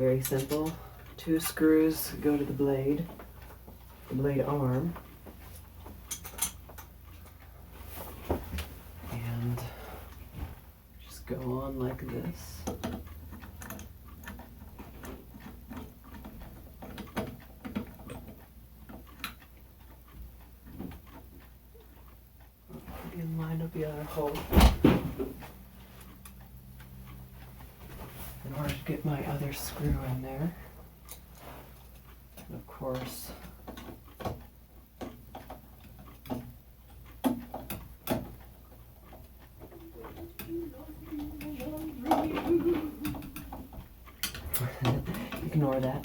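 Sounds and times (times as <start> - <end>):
ceiling fan blade clicks and taps: 0.0 - 46.0.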